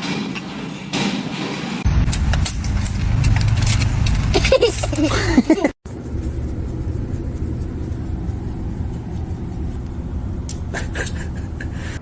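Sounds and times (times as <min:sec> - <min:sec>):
vehicle engine rumbling: 0:01.8 - 0:12.0.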